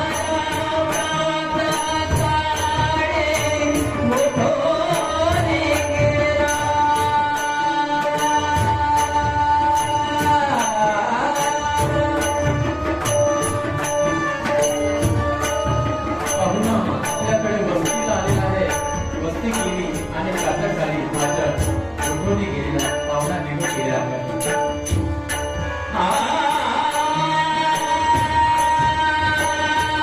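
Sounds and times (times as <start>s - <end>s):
hand cymbals struck: 0.0s - 30.0s
harmonium chords: 0.0s - 30.0s.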